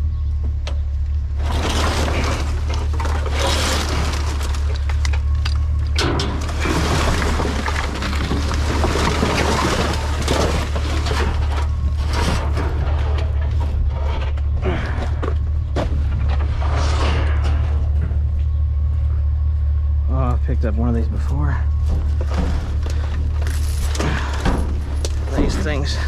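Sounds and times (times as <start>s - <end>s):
truck idling hum: 0.0s - 26.0s
trash rustling and clattering: 0.5s - 20.0s, 21.2s - 26.0s.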